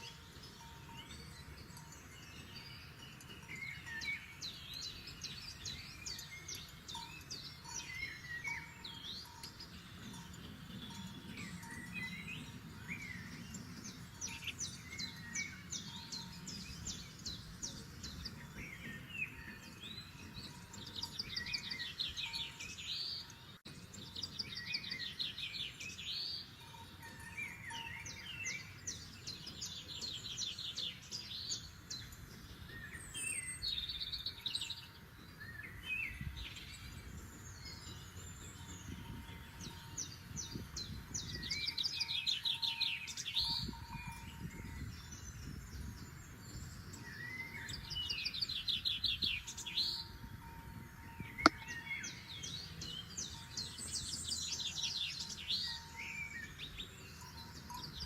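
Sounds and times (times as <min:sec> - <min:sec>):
songbirds singing and calling: 0:00.0 - 0:58.0.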